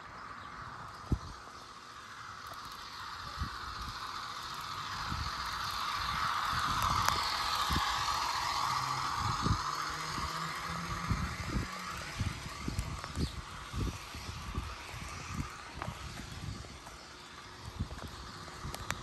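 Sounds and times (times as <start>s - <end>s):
model train motor whir: 0.0s - 19.0s.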